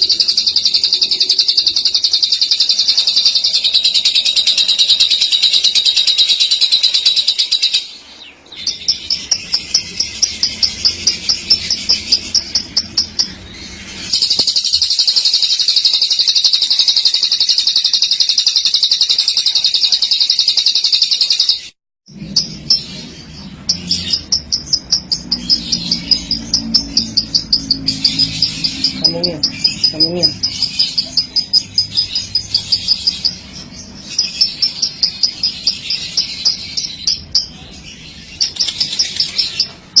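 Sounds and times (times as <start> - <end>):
lovebird chattering trill: 0.0 - 21.7, 22.3 - 40.0.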